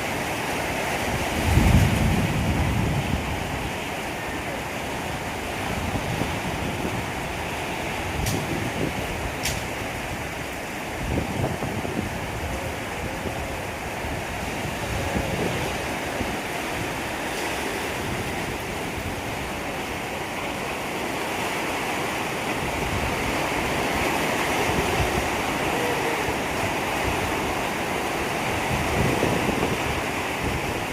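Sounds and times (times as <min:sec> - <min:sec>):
heavy rain: 0:00.0 - 0:30.9
storm wind: 0:00.0 - 0:30.9
wind buffeting microphone: 0:00.0 - 0:30.9.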